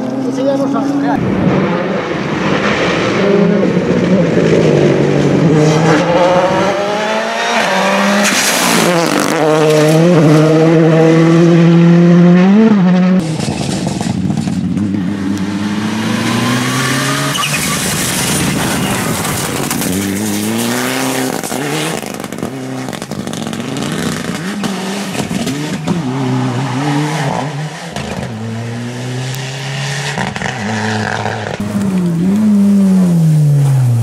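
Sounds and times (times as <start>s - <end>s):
rally car engine accelerating: 0.0s - 34.0s
second rally car accelerating: 0.0s - 34.0s.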